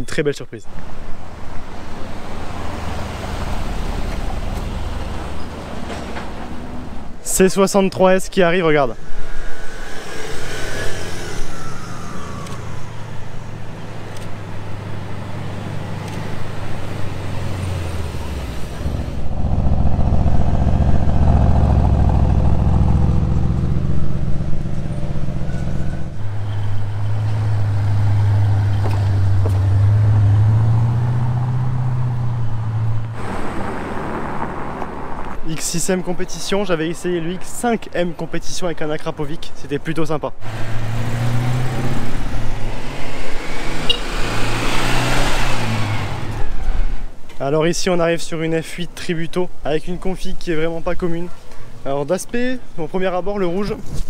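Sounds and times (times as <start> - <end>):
cars driving past slowly: 0.7 - 38.0, 40.4 - 48.4.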